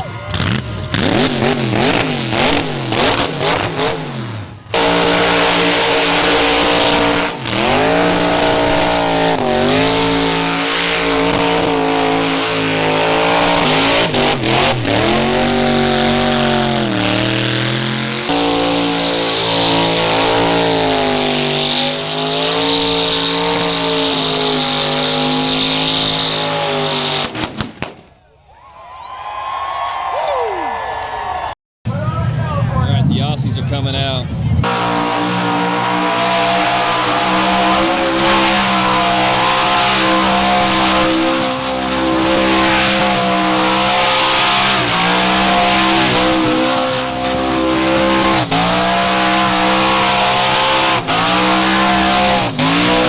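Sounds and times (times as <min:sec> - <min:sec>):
car engine revving: 0:00.0 - 0:27.7, 0:32.8 - 0:53.0.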